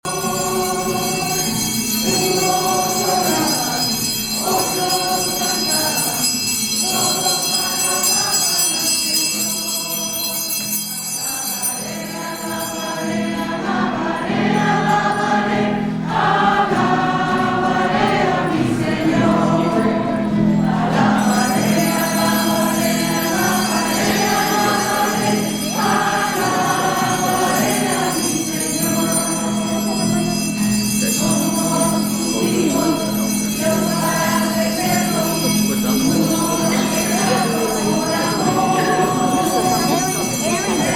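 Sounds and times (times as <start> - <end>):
choir singing a hymn: 0.1 - 40.9.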